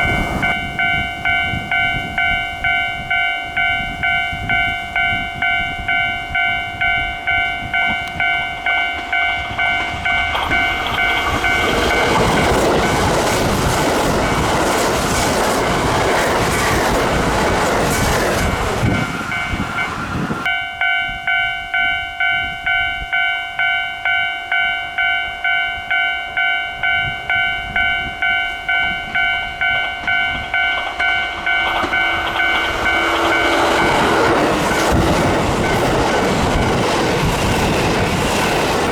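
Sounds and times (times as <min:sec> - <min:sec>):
level crossing alarm dinging: 0:00.0 - 0:37.0
train passing: 0:00.0 - 0:38.9.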